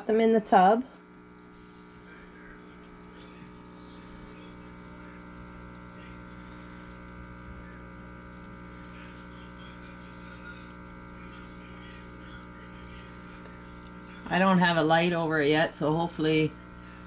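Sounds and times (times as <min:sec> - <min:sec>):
aquarium air pump humming: 0:00.0 - 0:17.0
water bubbling and trickling: 0:01.0 - 0:15.4.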